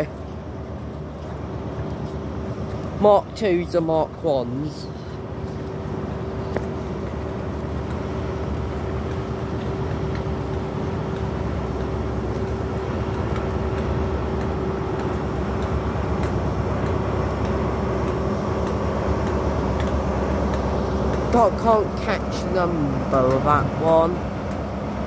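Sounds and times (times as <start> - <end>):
constant hum: 0.0 - 25.0
diesel locomotive idling rumble: 0.0 - 25.0.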